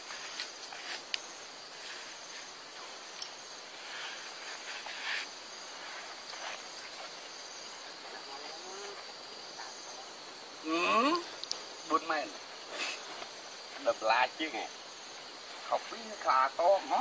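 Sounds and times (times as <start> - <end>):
insect chorus drone: 0.0 - 17.0
rustles: 0.0 - 17.0.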